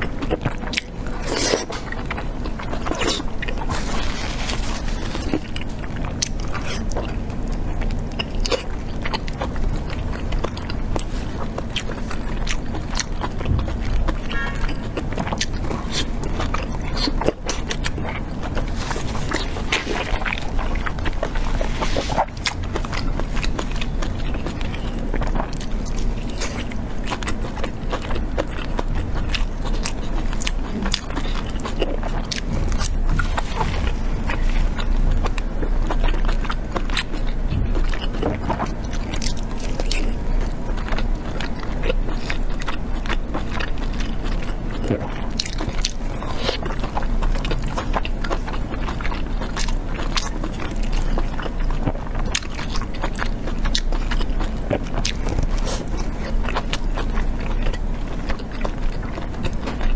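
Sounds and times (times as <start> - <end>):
chewing with wet clicks: 0.0 - 59.9.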